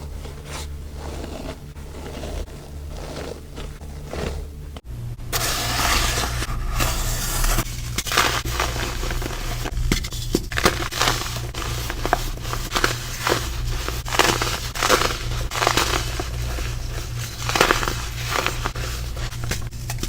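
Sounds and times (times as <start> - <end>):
baking soda crunching: 0.0 - 4.8, 5.4 - 20.0
steady low hum: 0.0 - 20.0.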